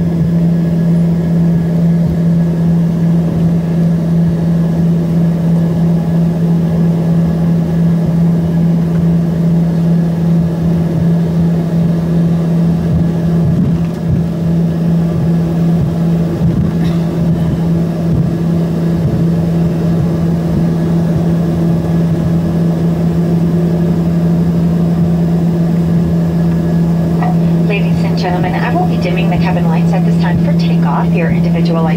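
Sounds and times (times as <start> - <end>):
jet engines droning in cabin: 0.0 - 31.9.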